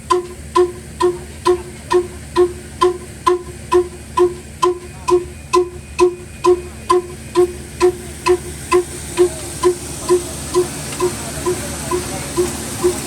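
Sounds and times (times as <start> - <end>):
diesel engine exhaust beating: 0.0 - 13.0.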